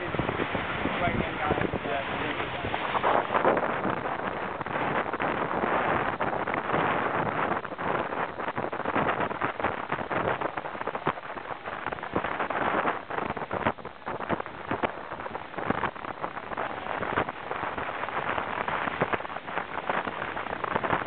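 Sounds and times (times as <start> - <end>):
water rushing along hull: 0.0 - 21.0.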